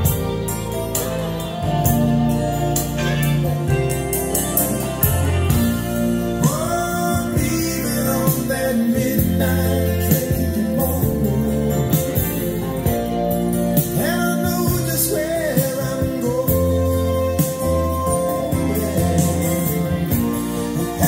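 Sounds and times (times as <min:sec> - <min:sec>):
song with guitar on speakers: 0:00.0 - 0:21.0.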